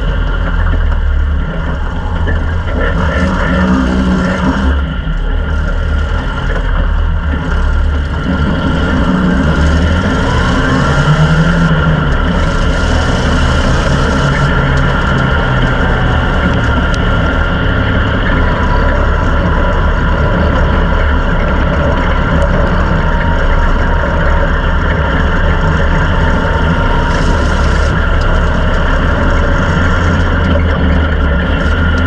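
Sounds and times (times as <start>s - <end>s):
race car engine running: 0.0s - 32.0s.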